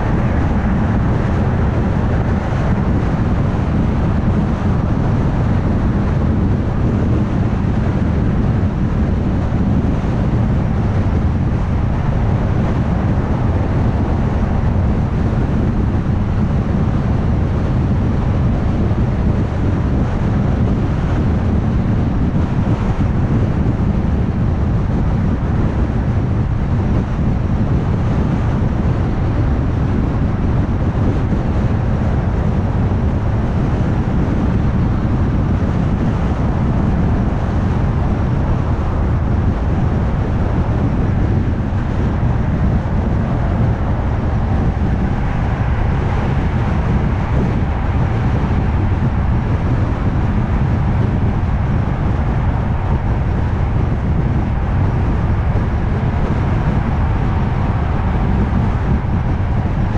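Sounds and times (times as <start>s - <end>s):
car cruising at highway speed: 0.0s - 59.9s.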